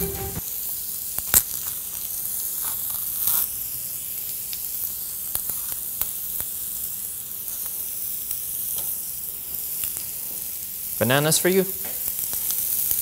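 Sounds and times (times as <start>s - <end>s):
food sizzling on griddle: 0.1s - 13.0s.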